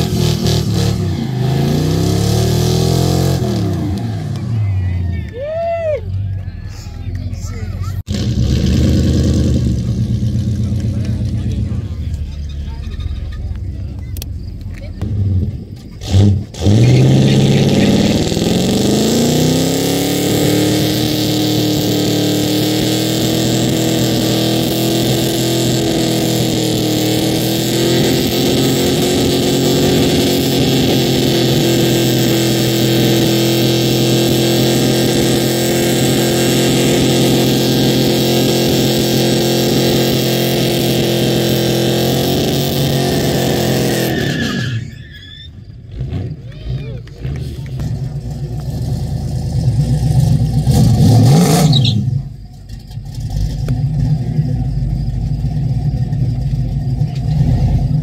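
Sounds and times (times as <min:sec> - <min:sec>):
pickup engine revving: 0:00.0 - 0:05.4, 0:06.2 - 0:58.0
tire spinning and squealing: 0:00.0 - 0:58.0.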